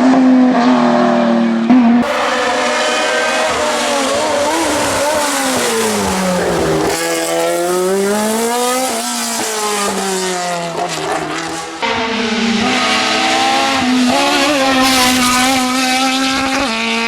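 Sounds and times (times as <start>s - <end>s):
race car engine revving: 0.5s - 17.0s.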